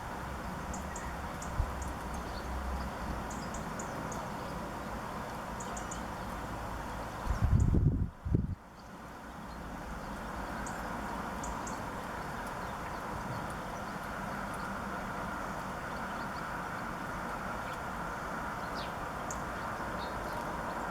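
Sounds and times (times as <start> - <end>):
small birds chirping: 0.4 - 6.4, 8.4 - 20.9.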